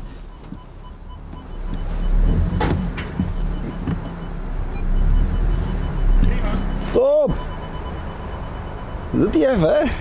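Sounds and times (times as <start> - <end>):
car engine rumbling: 0.0 - 10.0
faint evenly paced beeping: 0.2 - 10.0.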